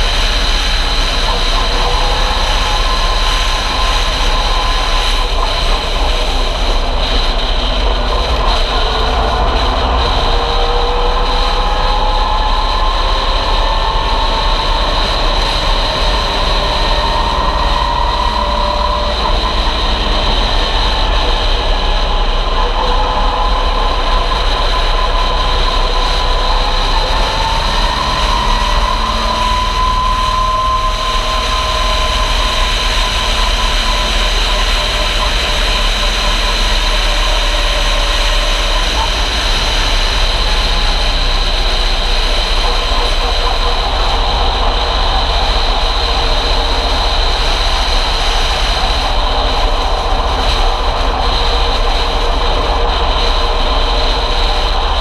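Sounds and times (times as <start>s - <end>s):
race car engine running hard: 0.0s - 55.0s
steady rushing noise: 0.0s - 55.0s.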